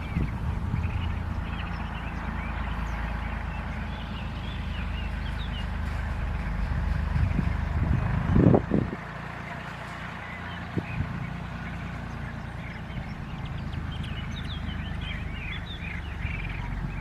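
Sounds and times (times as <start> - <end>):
low rumble: 0.0 - 17.0
small birds chirping: 0.0 - 17.0.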